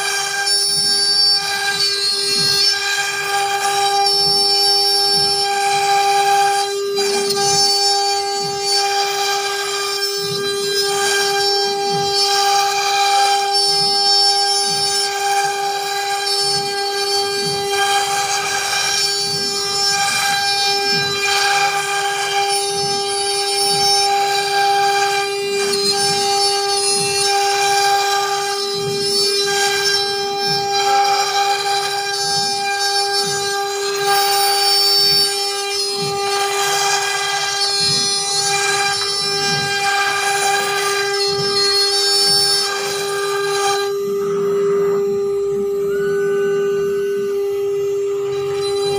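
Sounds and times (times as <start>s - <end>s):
router spindle cutting: 0.0s - 48.9s.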